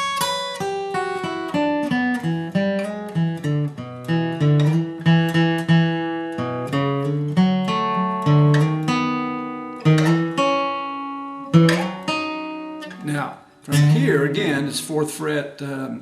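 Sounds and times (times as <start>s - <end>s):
acoustic guitar picked notes: 0.0s - 16.0s.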